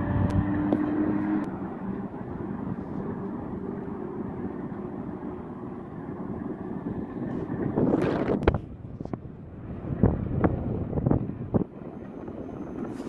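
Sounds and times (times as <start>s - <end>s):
tracked vehicle engine and tracks: 0.0s - 13.0s.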